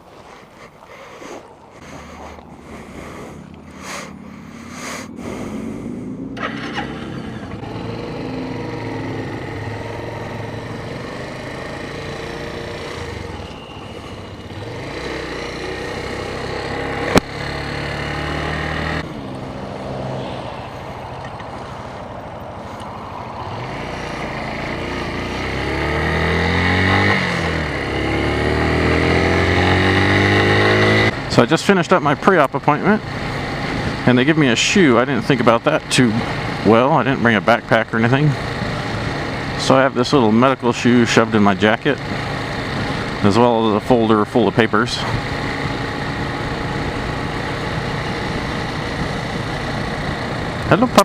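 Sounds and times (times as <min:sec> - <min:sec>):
motorcycle engine running: 0:01.8 - 0:22.0, 0:22.6 - 0:51.0.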